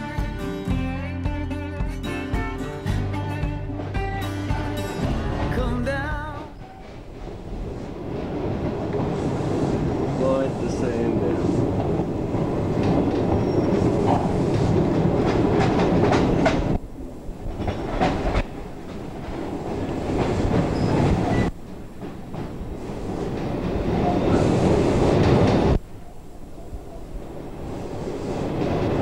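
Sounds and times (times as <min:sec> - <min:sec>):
train wheels rumbling on track: 0:03.8 - 0:29.0.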